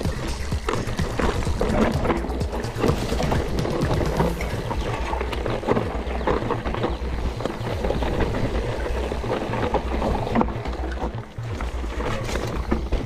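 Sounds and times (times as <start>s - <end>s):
bike knocking and rattling: 0.0s - 13.0s.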